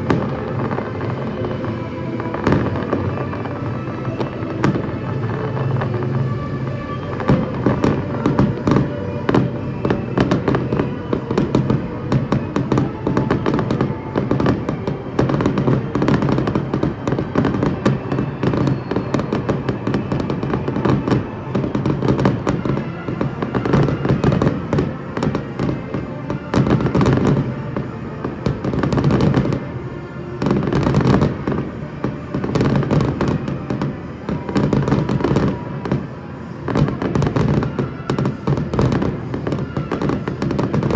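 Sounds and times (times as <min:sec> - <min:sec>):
fireworks bangs and crackles: 0:00.0 - 0:40.9
music playing: 0:00.0 - 0:40.9.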